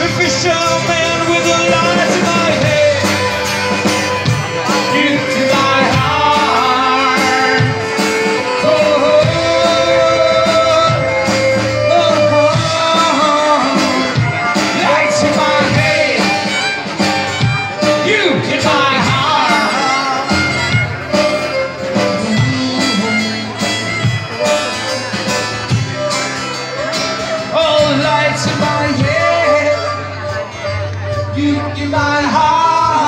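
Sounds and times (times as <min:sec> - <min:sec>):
person singing: 0:00.0 - 0:17.1, 0:17.8 - 0:33.0
drums: 0:00.0 - 0:33.0
guitar: 0:00.0 - 0:33.0
violin: 0:00.0 - 0:33.0.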